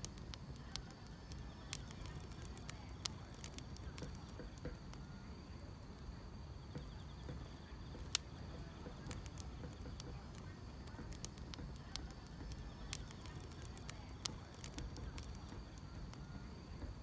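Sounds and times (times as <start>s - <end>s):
faint insects trilling: 0.0s - 17.0s
wood fire crackling and popping: 0.0s - 17.0s.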